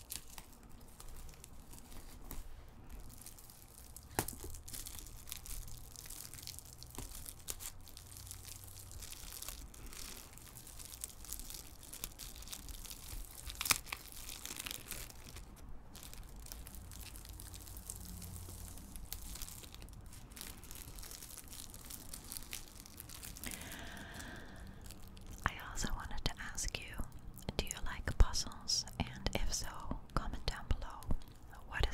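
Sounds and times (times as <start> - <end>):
plastic shrink-wrap crinkling and tearing: 0.0 - 26.2.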